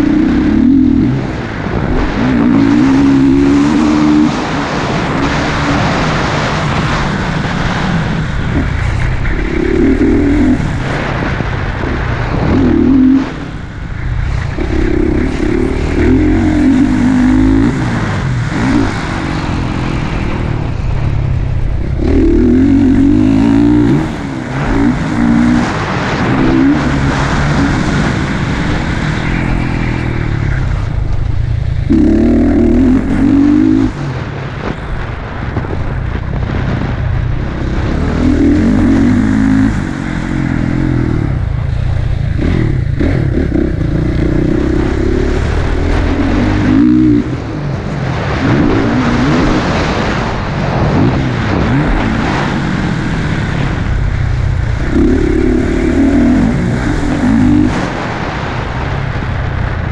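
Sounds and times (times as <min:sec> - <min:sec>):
dirt bike engine revving: 0:00.0 - 0:59.8.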